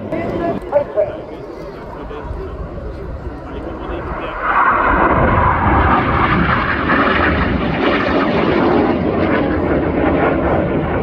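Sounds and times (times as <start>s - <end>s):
aircraft engine passing: 0.0s - 11.0s.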